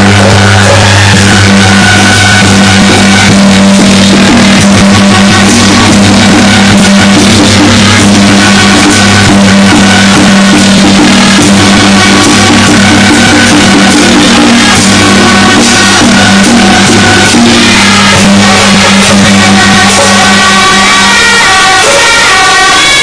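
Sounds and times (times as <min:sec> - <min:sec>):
loud music with drumming: 0:00.0 - 0:23.0
steady held tones: 0:00.0 - 0:23.0.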